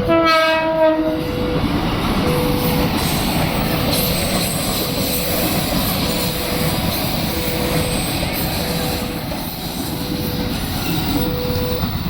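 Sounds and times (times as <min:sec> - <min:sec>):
train rumbling and rattling on rails: 0:00.0 - 0:12.0.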